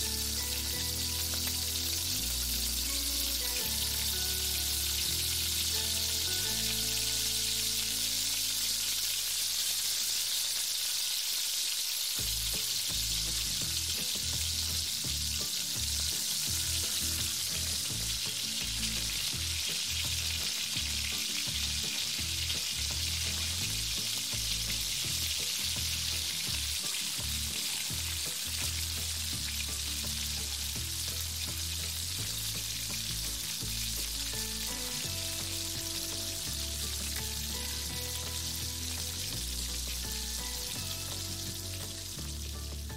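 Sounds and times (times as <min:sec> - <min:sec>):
food sizzling in hot oil: 0:00.0 - 0:42.9.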